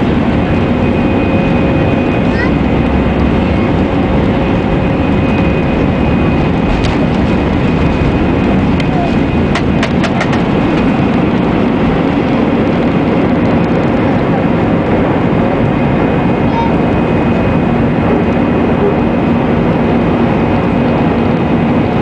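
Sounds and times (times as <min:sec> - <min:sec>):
jet engines whining: 0:00.0 - 0:22.0
wheels rumbling on runway: 0:00.0 - 0:22.0.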